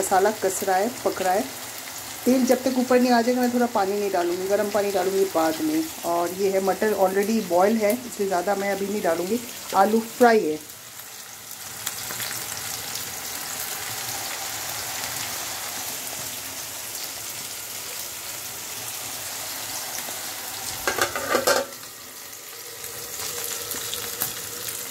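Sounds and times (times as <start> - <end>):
cheese cubes sizzling in oil: 0.0 - 24.9.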